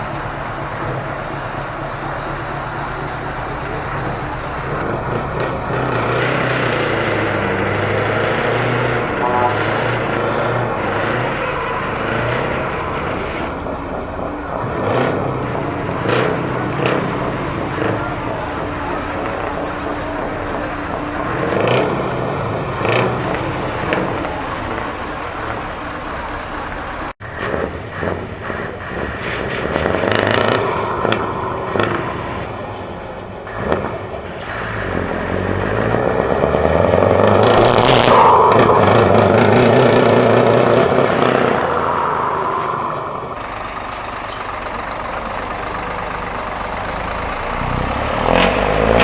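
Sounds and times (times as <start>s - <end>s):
truck engine with open exhaust: 0.0s - 49.0s.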